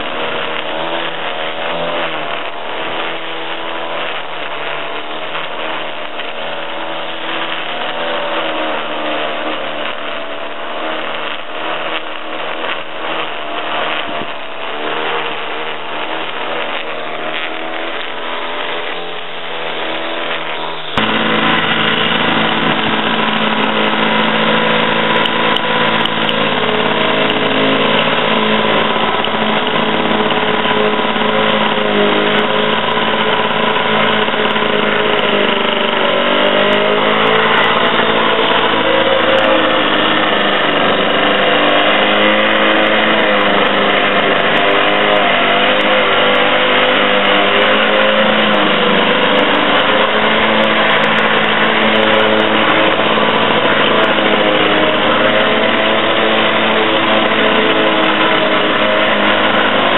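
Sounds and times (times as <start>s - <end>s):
lawn mower running: 0.0s - 59.9s
line trimmer running: 0.0s - 59.9s.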